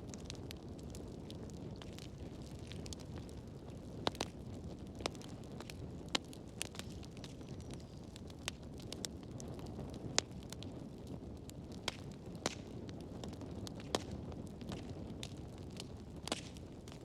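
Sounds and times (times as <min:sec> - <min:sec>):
burning logs popping: 0:00.0 - 0:17.0
fire flames rumbling: 0:00.0 - 0:17.0.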